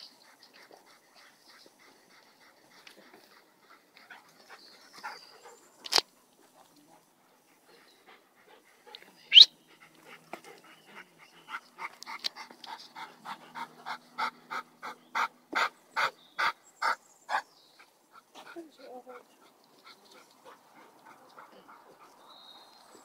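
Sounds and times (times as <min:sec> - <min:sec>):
dog panting hard: 0:00.0 - 0:05.7, 0:06.5 - 0:22.8.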